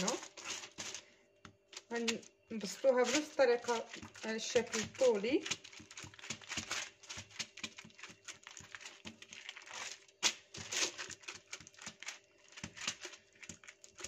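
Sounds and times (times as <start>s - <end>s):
hand scraping paper: 0.0s - 1.1s, 1.9s - 14.0s
kitchen paper rustling: 0.0s - 1.1s, 1.7s - 14.0s.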